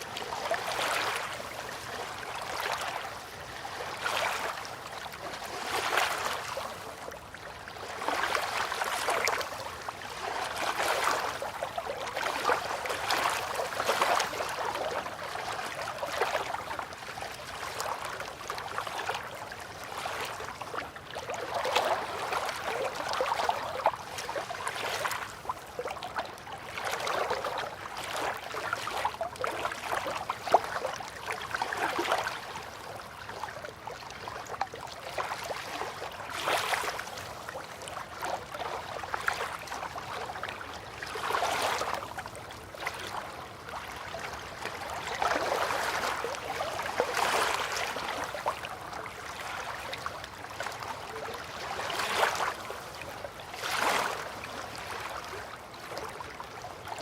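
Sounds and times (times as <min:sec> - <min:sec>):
river water lapping against bank: 0:00.0 - 0:57.0.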